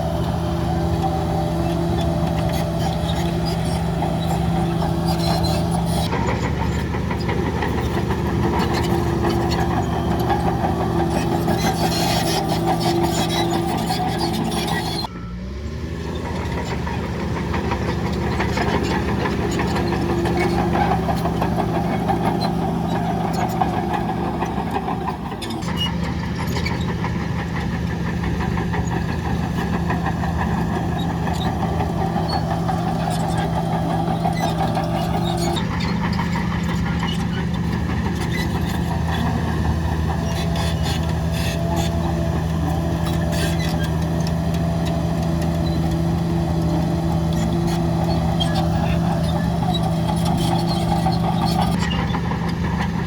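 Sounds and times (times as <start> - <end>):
heavy diesel machinery engine: 0.0 - 53.0.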